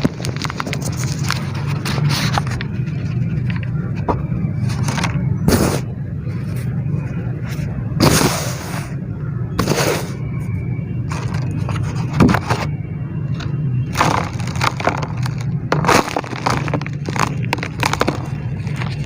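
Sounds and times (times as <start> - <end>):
dirt crumbling and crunching: 0.0 - 8.3, 9.6 - 19.0
low hum: 0.0 - 19.0.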